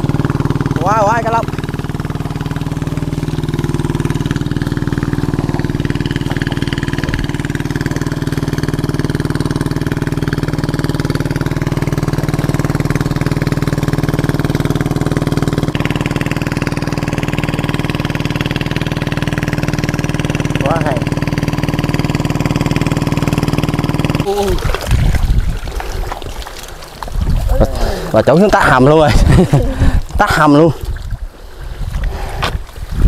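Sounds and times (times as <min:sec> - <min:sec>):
small engine running: 0:00.0 - 0:30.7.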